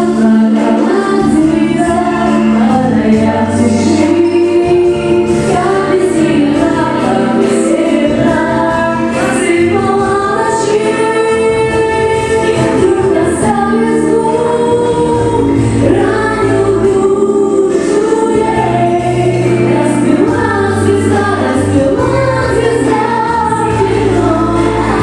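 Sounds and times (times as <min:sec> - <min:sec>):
choir singing long notes: 0:00.0 - 0:25.0.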